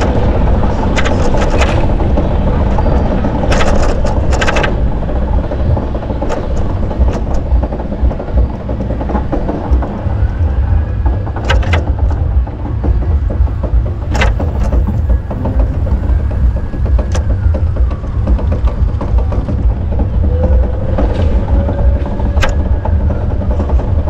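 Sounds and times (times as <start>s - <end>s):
bicycle rattling clicks: 0.0s - 24.0s
wind and road rumble: 0.0s - 24.0s.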